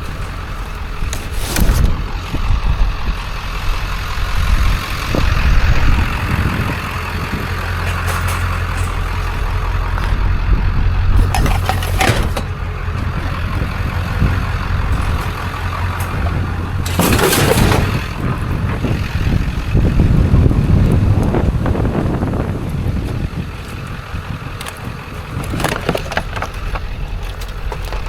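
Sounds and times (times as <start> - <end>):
vehicle engine hum and road noise: 0.0 - 28.0.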